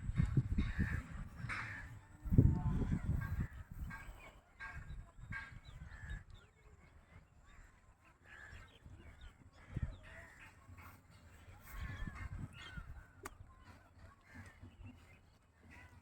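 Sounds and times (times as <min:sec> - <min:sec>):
birds calling: 0:00.2 - 0:16.0.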